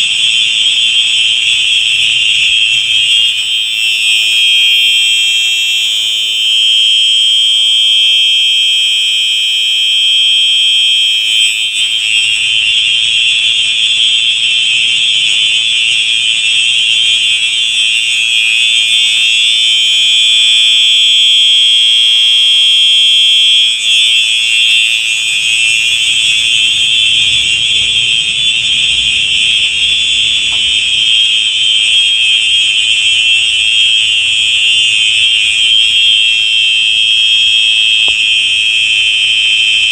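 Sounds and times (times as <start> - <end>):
electronic fire alarm horn: 0.0 - 39.9.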